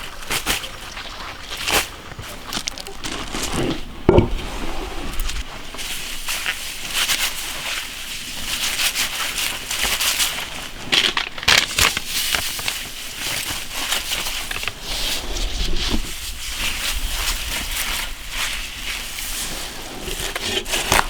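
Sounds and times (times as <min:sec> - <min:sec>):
cabbage leaves rustling and crackling: 0:00.0 - 0:21.0.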